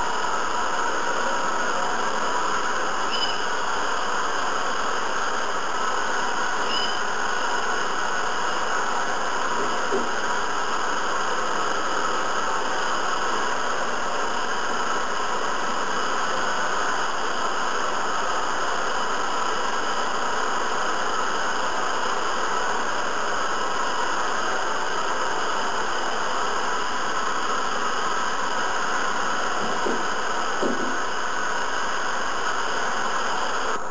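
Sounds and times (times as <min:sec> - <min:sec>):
hair dryer running: 0:00.0 - 0:33.9.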